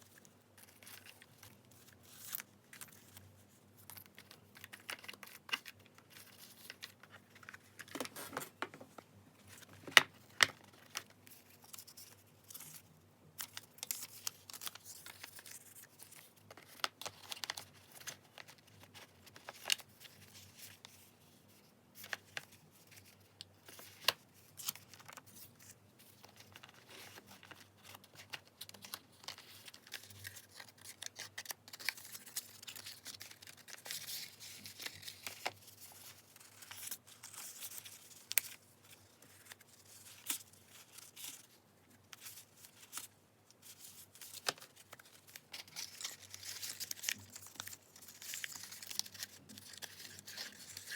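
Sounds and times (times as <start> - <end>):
paper rustling: 0.0 - 12.8, 13.4 - 50.9.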